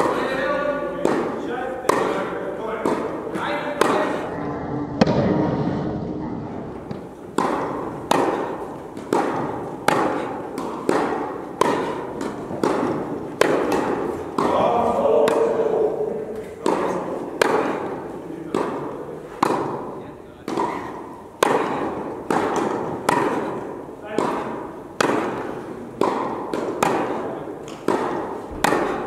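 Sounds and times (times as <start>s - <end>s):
tennis ball bouncing on court: 0.0s - 4.3s, 6.8s - 29.0s
tennis ball struck by racquets: 0.0s - 4.3s, 6.8s - 29.0s.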